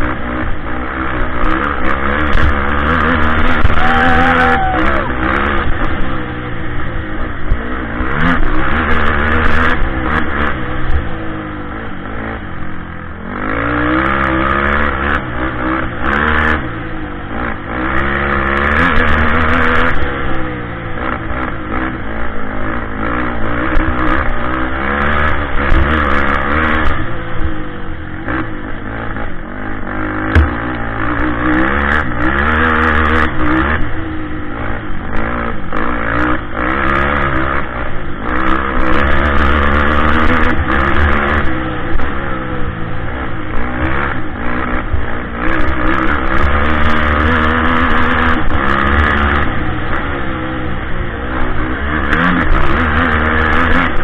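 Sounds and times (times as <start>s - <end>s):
quad engine revving: 0.0s - 54.0s.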